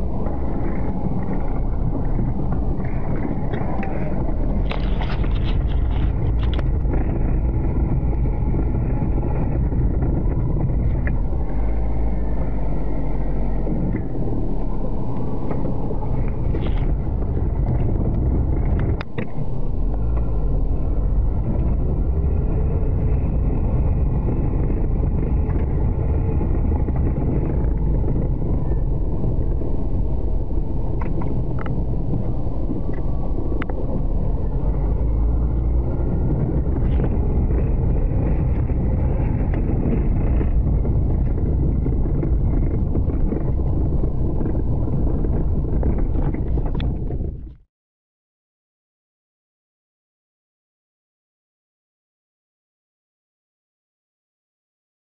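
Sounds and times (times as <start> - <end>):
heavy vehicle engine rumbling: 0.0 - 47.6.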